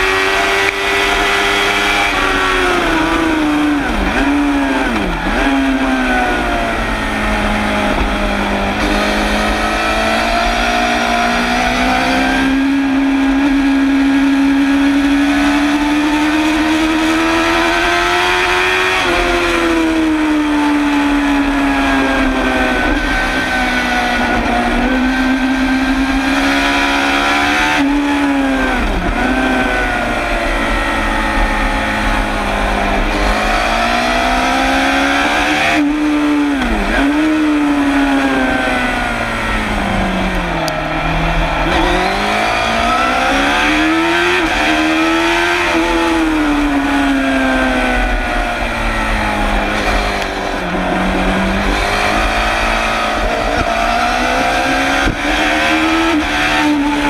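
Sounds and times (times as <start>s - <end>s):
motorcycle engine racing: 0.0s - 57.0s.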